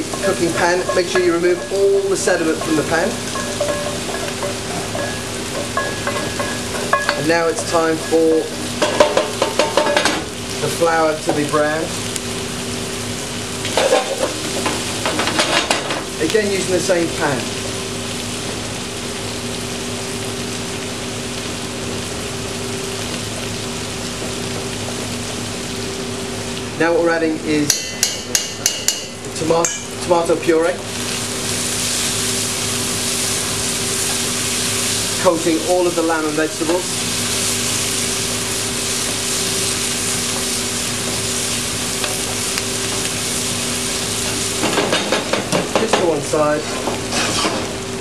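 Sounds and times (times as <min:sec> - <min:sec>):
flour sizzling in frying pan: 0:00.0 - 0:48.0
steady hum: 0:00.0 - 0:48.0.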